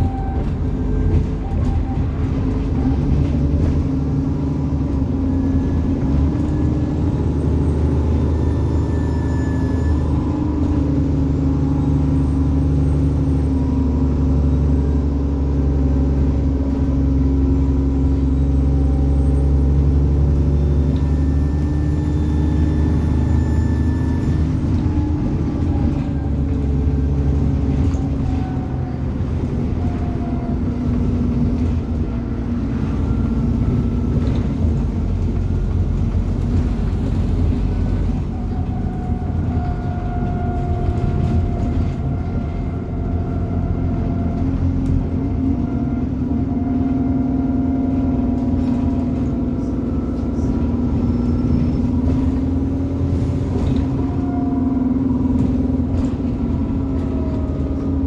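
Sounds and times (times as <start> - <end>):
bus diesel engine drone: 0.0 - 58.0.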